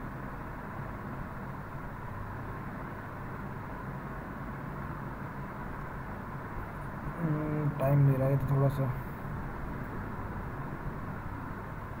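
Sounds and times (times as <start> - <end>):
hum with faint hiss: 0.0 - 12.0.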